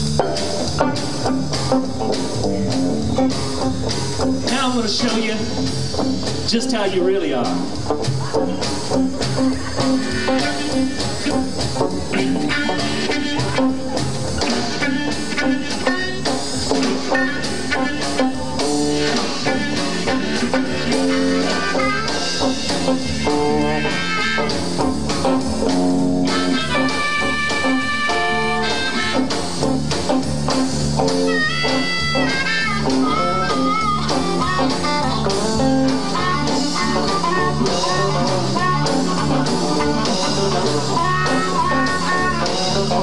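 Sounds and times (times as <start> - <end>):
blues harmonica: 0.0 - 43.0
electric blues band playing: 0.0 - 43.0.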